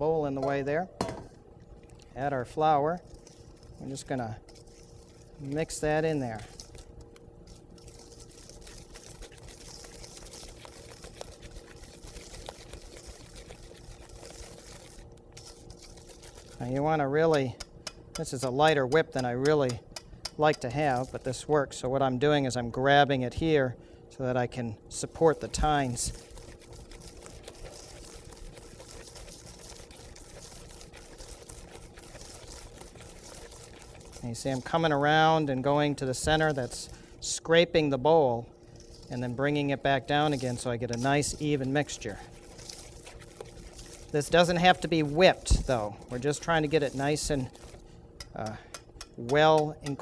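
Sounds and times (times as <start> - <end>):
whisk stirring wet batter: 1.7 - 23.6, 24.2 - 50.0
whisk tines tapping bowl: 2.2 - 22.6, 24.9 - 50.0.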